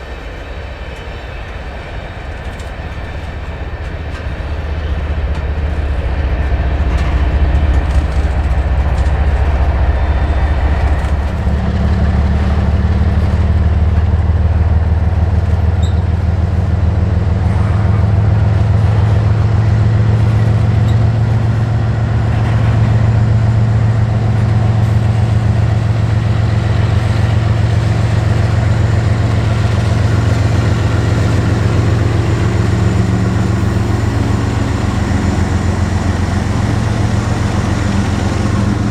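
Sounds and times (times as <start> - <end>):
heavy engine droning hum: 0.0 - 38.9.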